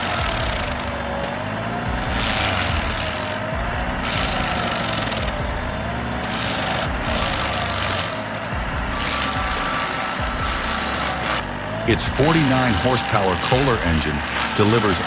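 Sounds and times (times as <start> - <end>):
cutter grinding wood: 0.0 - 15.0
engine running under load: 0.0 - 15.0.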